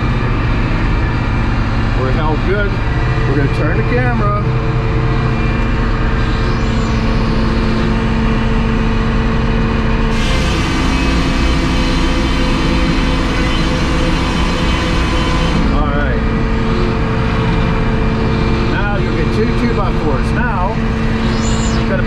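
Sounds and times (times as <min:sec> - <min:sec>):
sawmill machine hum: 0:00.0 - 0:22.0.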